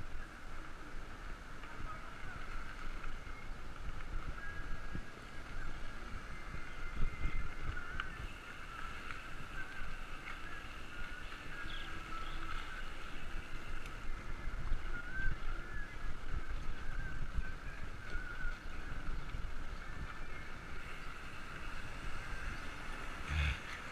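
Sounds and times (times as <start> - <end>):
bicycle rolling over wet asphalt: 0.0 - 23.9
road rumble: 0.0 - 23.9
wind on camera: 0.0 - 23.9.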